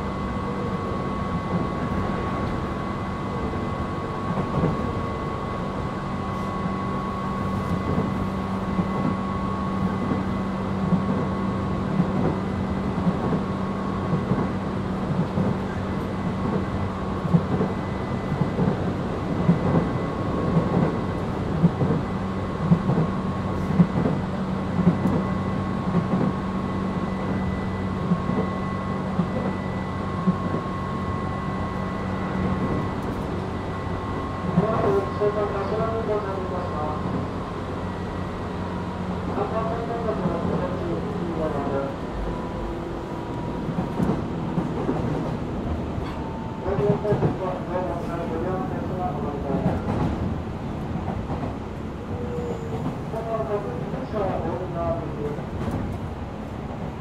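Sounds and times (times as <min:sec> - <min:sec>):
low train rumble: 0:00.0 - 0:57.0.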